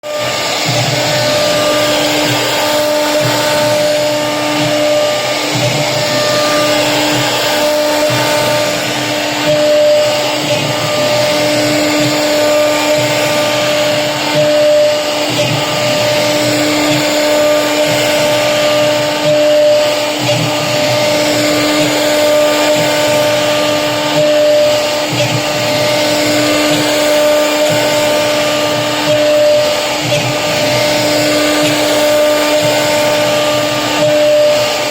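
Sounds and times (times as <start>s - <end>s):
bit cutting board: 0.0s - 34.9s
router spindle high-pitched whine: 0.0s - 34.9s.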